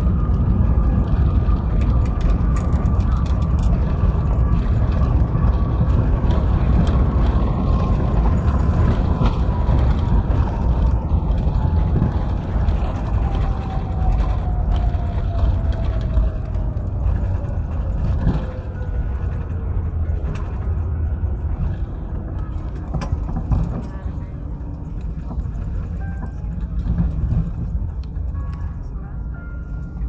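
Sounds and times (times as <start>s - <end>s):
heavy low rumble: 0.0s - 30.0s.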